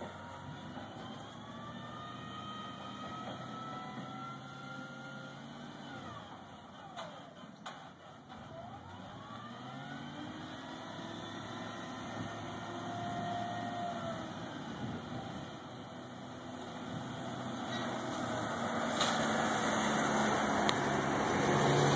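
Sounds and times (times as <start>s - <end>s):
pickup truck passing: 0.0s - 6.7s, 9.0s - 21.9s
truck engine running: 0.0s - 21.9s.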